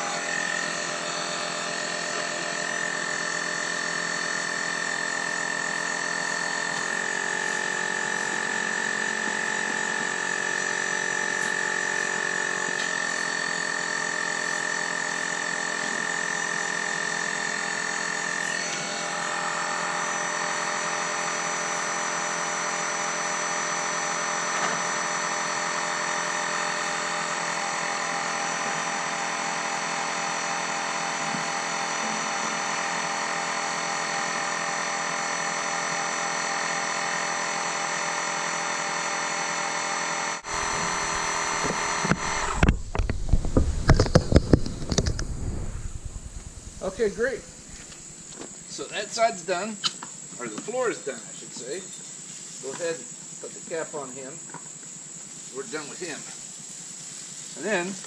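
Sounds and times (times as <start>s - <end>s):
cordless inflator running: 0.0s - 48.8s.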